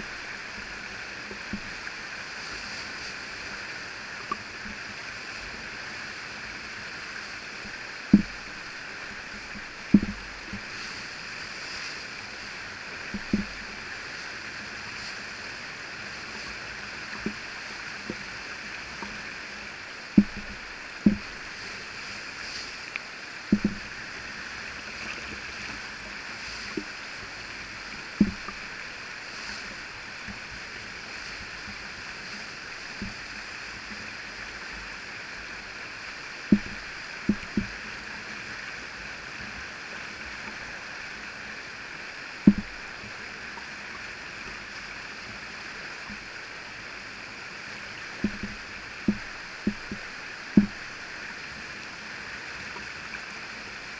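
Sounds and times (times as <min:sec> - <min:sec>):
rushing whitewater: 0:00.0 - 0:53.9.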